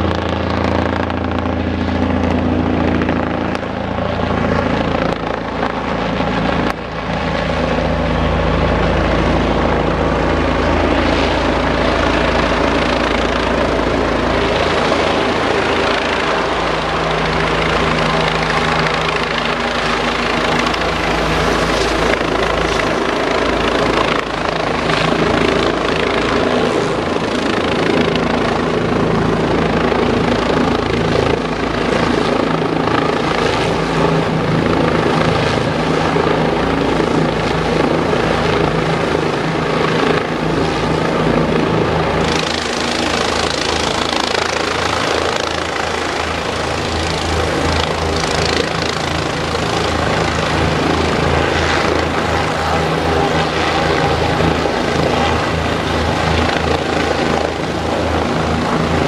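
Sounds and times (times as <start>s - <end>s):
helicopter rotor and engines: 0.0s - 59.0s.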